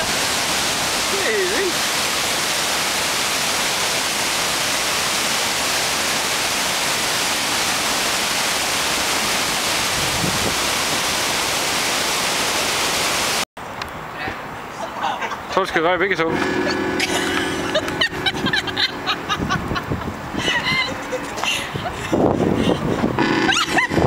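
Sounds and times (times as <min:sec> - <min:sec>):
white water rushing: 0:00.0 - 0:13.4, 0:16.3 - 0:24.0.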